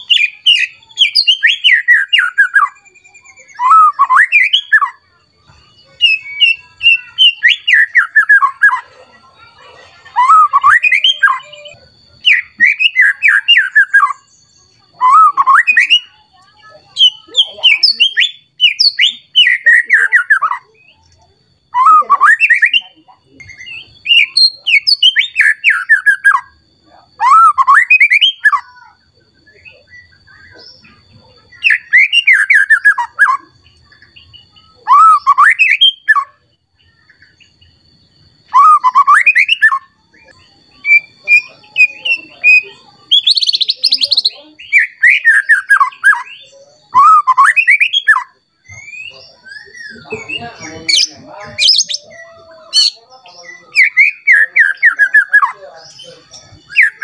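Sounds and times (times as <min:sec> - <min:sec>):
bird singing whistled phrases: 0:00.0 - 0:09.2, 0:10.0 - 0:57.0.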